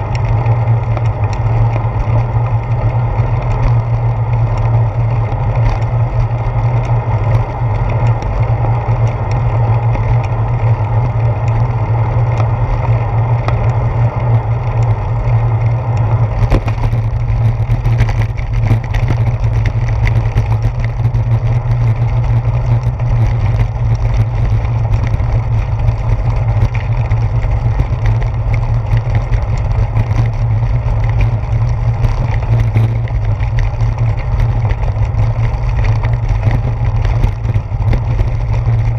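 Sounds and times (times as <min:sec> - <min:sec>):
bicycle rattling on brick pavers: 0:00.0 - 0:38.9
wind and road rumble: 0:00.0 - 0:38.9.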